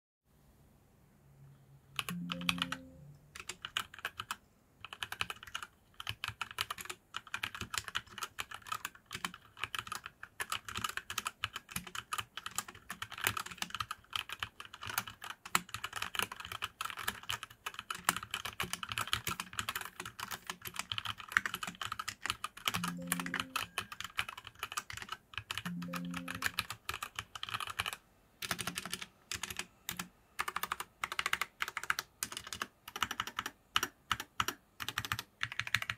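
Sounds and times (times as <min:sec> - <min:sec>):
mechanical keyboard typing: 0:02.0 - 0:35.9.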